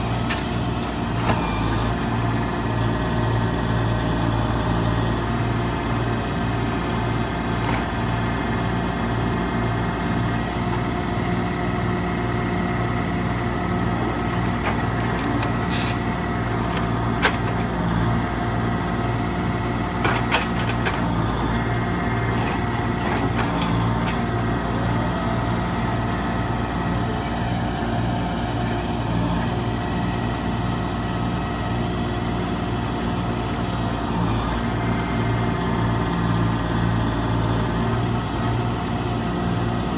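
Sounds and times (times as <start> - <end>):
heavy machinery engine running: 0.0 - 39.9.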